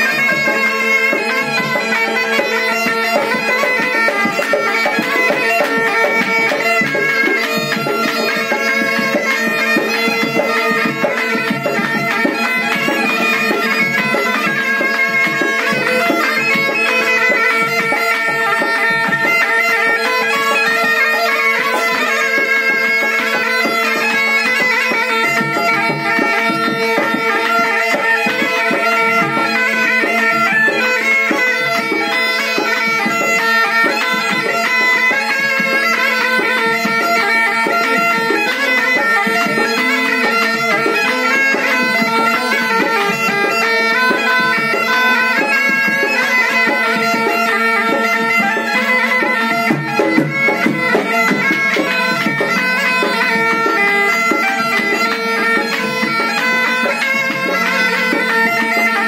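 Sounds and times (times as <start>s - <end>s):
bagpipes playing folk melody: 0.0s - 59.0s.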